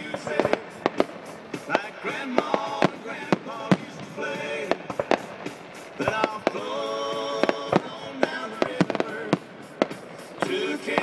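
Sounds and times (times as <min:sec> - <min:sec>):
firework shells bursting: 0:00.0 - 0:11.0
music playing: 0:00.0 - 0:11.0.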